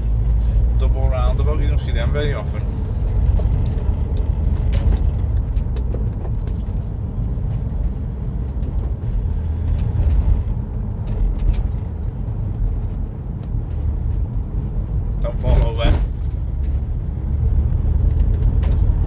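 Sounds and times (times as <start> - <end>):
engine low rumble: 0.0 - 19.0
tyres on road: 0.0 - 19.0
light knocks and rattles: 2.7 - 19.0.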